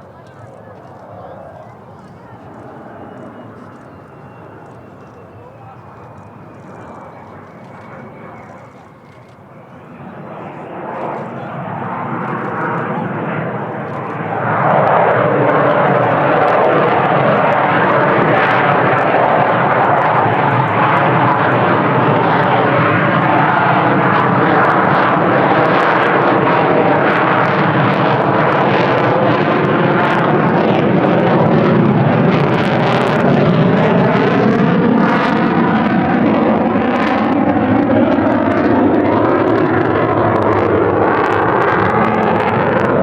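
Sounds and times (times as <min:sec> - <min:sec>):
jet engine roaring: 0:00.0 - 0:43.0.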